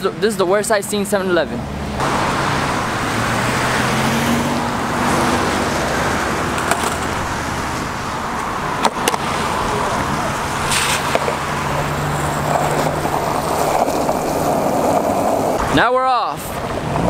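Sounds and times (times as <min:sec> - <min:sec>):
road traffic passing: 0:00.0 - 0:17.0
skateboard wheels rolling on asphalt: 0:02.0 - 0:17.0.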